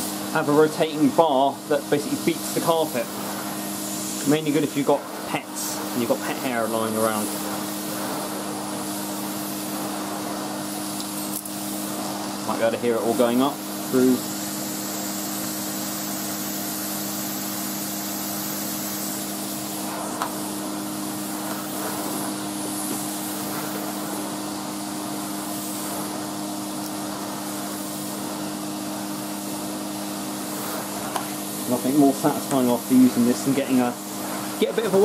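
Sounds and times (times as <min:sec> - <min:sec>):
rushing air: 0:00.0 - 0:35.0
vacuum cleaner motor hum: 0:00.0 - 0:35.0.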